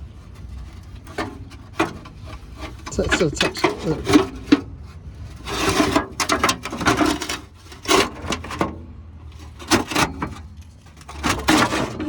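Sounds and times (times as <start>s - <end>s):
scraping and rasping under car: 0.0s - 12.0s.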